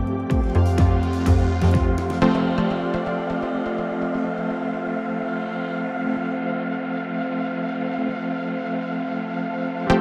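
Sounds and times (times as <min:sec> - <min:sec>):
ambient electronic music: 0:00.0 - 0:10.0.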